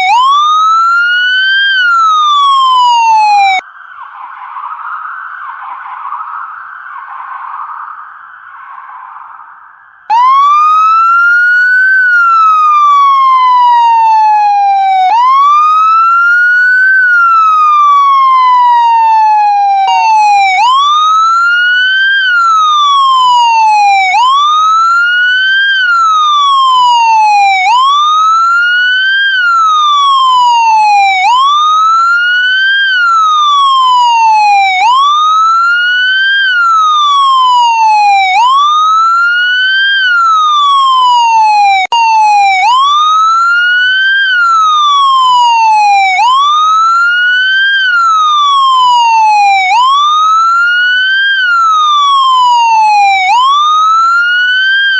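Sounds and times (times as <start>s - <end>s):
police siren wailing: 0.0s - 54.9s.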